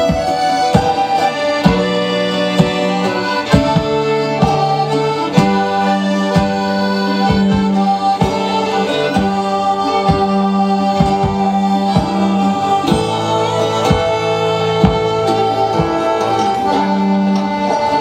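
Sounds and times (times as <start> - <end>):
folk band with accordions: 0.0 - 18.0
steady beat: 0.0 - 18.0.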